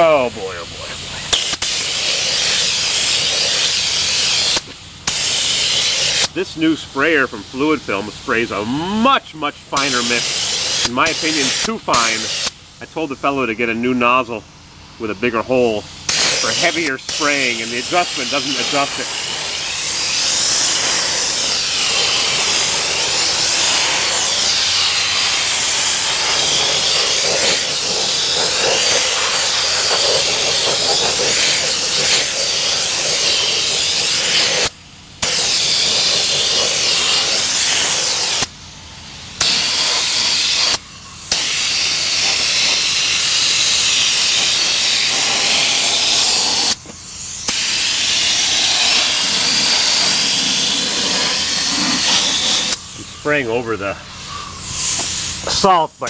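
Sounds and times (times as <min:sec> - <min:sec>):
spray gun hissing: 0:00.0 - 0:13.0, 0:15.8 - 0:55.9.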